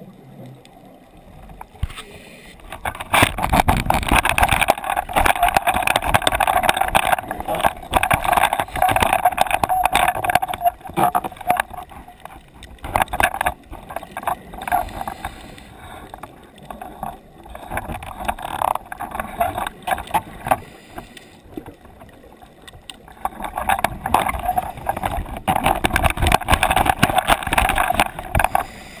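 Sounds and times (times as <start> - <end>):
underwater crackling and bubbling: 0.0 - 29.0.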